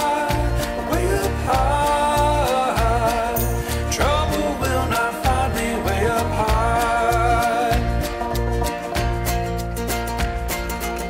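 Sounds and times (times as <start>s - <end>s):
country-folk song with steady beat: 0.0s - 11.0s.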